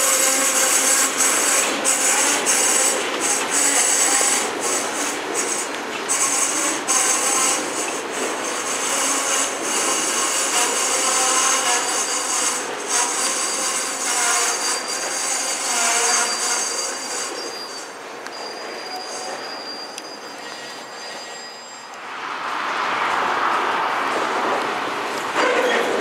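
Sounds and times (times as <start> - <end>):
high wavering wheel squeal: 0.0 - 22.0
steel wheels rolling on rail: 0.0 - 26.0.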